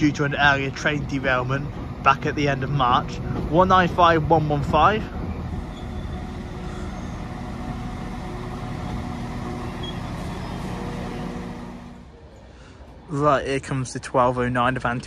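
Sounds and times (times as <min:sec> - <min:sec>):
wheel and rail noise: 0:00.0 - 0:13.0
train diesel engines humming: 0:00.0 - 0:13.2.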